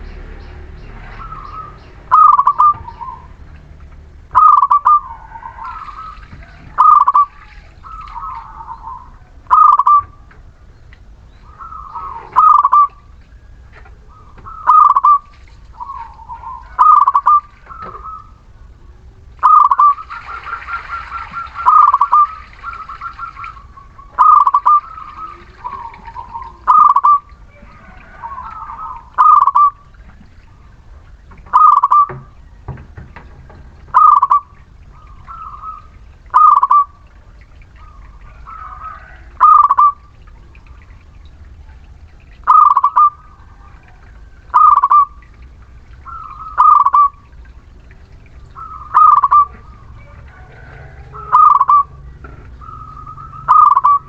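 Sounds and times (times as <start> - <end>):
dove cooing: 0.0 - 40.7, 41.6 - 54.0.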